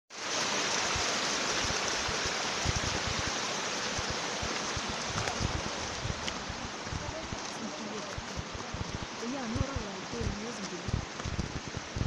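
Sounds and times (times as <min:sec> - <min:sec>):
rushing water hiss: 0:00.1 - 0:12.0.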